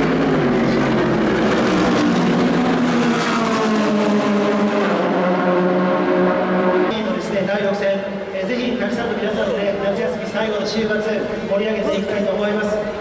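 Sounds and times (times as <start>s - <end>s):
racing car engine: 0.0s - 12.2s.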